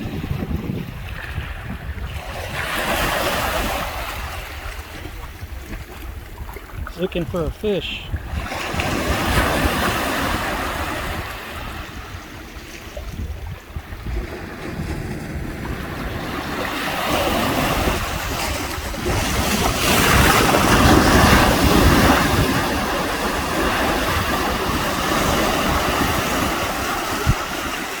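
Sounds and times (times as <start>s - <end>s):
ocean surf on beach: 0.0s - 28.0s
wind buffeting microphone: 0.0s - 28.0s.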